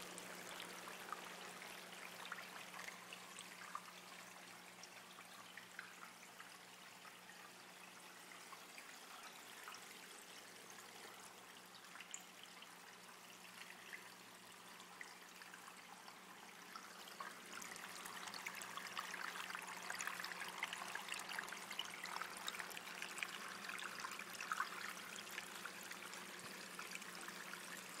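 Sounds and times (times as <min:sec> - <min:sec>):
fountain water trickling over stones: 0:00.0 - 0:28.0.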